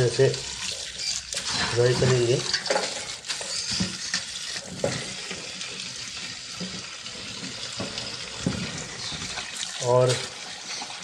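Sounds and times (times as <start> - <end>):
tap water running into colander: 0.0 - 11.0.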